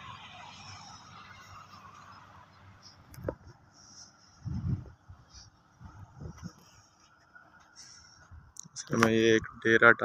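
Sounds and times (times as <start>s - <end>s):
distant motorway traffic hiss: 0.0s - 10.0s.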